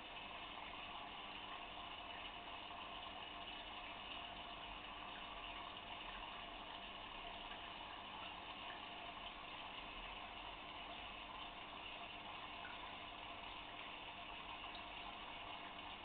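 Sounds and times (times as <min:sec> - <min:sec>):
water bubbling in fish tank: 0:00.0 - 0:16.0.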